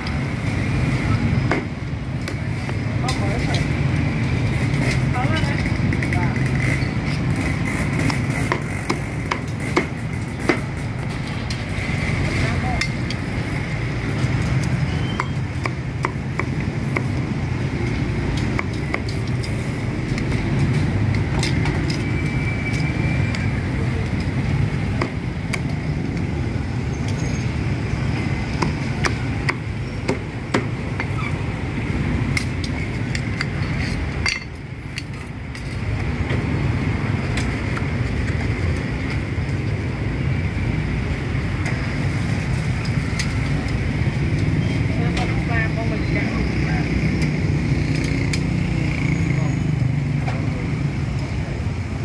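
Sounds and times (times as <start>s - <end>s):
low street rumble: 0.0s - 52.0s.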